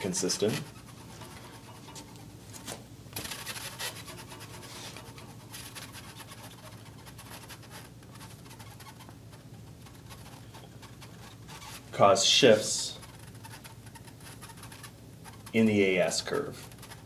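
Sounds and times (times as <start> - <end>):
marker pen scratching on glass: 0.0 - 17.0.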